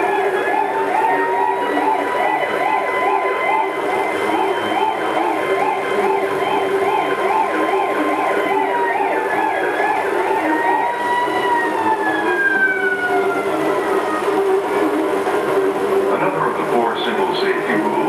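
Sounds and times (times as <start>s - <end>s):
ambulance siren: 0.0s - 18.0s.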